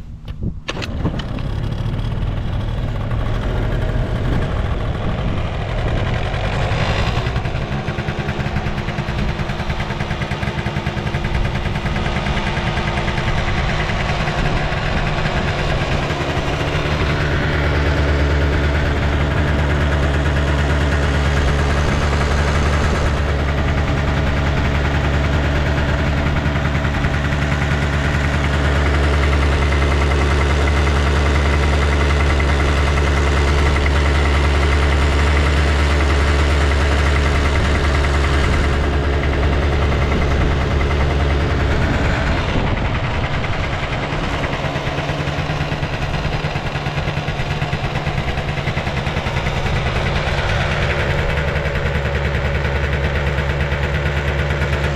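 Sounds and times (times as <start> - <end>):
scooter engine idling: 0.0 - 54.9.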